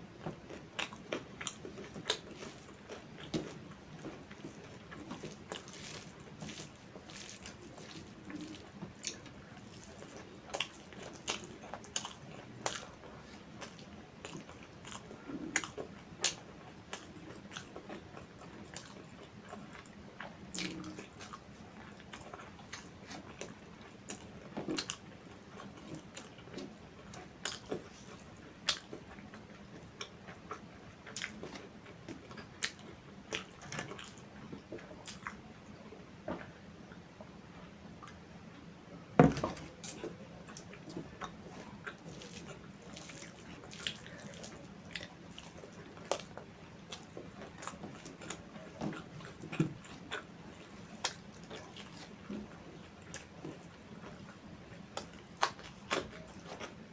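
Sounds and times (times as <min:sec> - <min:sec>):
person chewing food: 0:00.2 - 0:35.5, 0:39.2 - 0:56.8.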